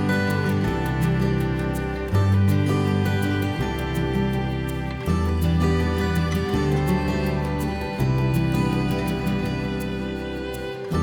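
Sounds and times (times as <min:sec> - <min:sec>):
gentle background music: 0:00.0 - 0:11.0.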